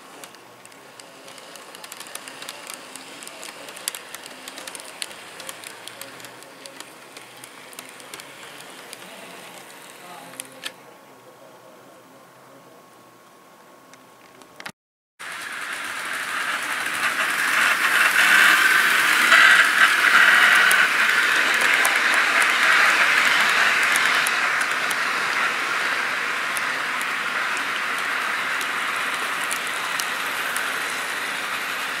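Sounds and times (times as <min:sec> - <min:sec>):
model train rolling on metal track: 0:00.0 - 0:10.7, 0:15.2 - 0:32.0.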